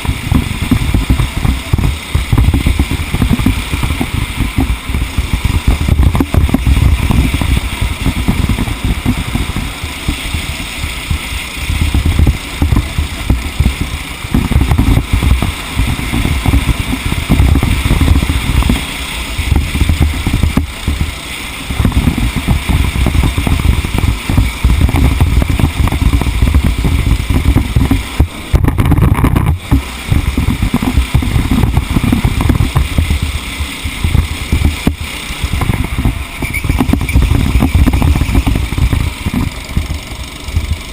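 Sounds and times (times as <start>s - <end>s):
racing kart engine running hard: 0.0s - 40.9s
wind buffeting microphone: 0.0s - 40.9s.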